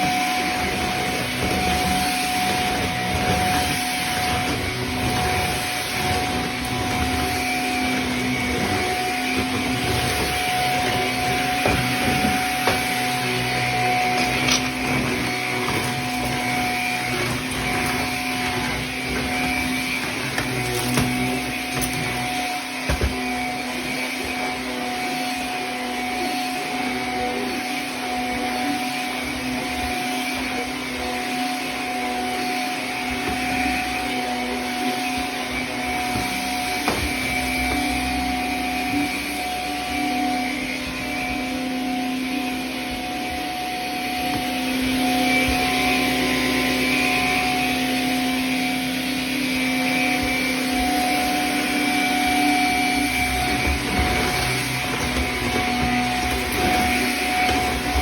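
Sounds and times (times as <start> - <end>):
vacuum cleaner motor drone: 0.0 - 58.0.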